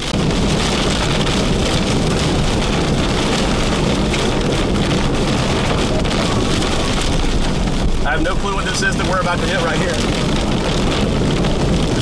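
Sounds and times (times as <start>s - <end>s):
rain beating on car: 0.0s - 12.0s
strong storm wind: 0.0s - 12.0s.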